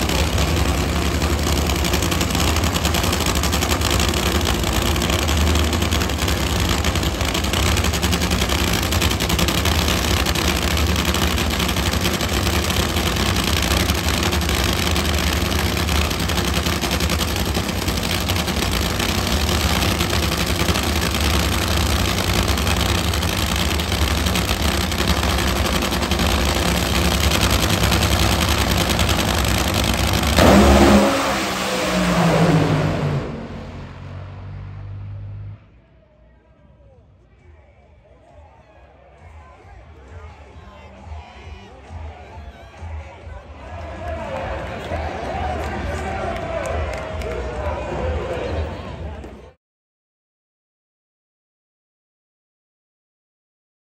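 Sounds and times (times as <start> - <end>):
drag racing engines: 0.0 - 38.4, 39.0 - 49.6.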